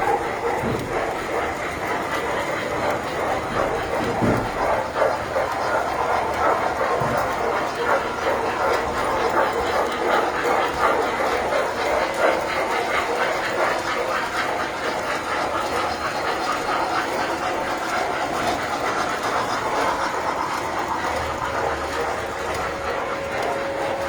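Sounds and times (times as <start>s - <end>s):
toy trains rattling on metal track: 0.0s - 24.0s.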